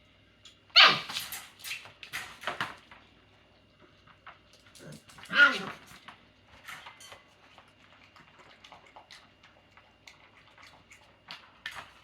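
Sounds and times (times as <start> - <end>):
puppies clicking and tapping: 0.4 - 3.1, 3.8 - 12.0.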